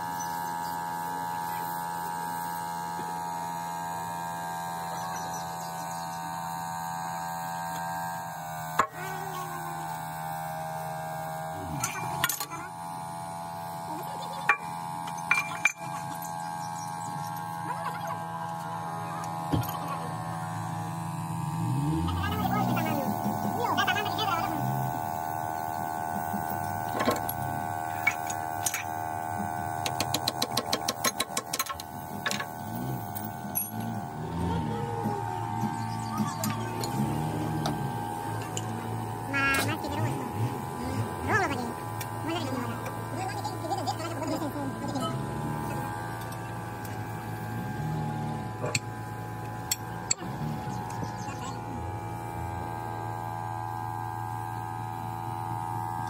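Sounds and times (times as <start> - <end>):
steady pitched hum: 0.0 - 56.0.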